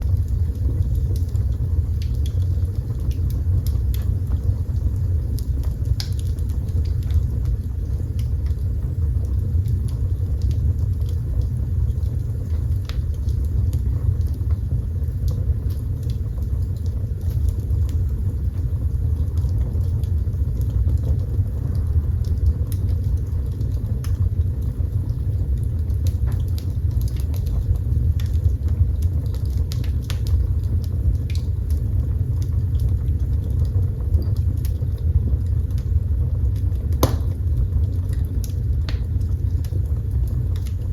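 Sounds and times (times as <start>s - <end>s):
fire crackling in fireplace: 0.0s - 40.9s.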